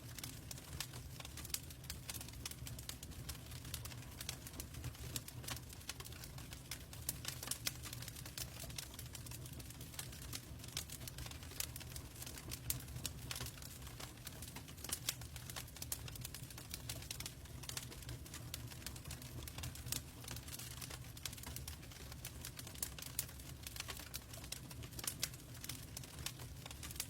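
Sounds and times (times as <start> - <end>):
logs crackling and popping: 0.0 - 27.0
low rumble of fire: 0.0 - 27.0.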